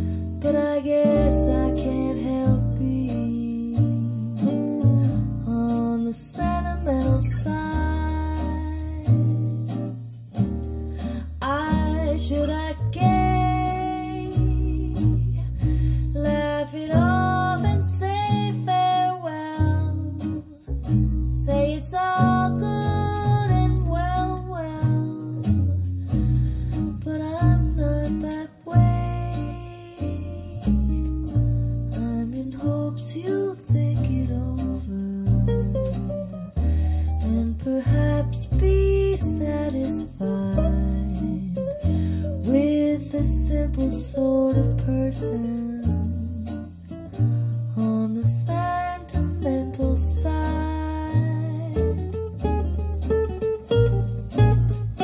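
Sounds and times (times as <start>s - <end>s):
guitar melody with pitch bends: 0.0s - 55.0s
low bass notes: 0.0s - 55.0s.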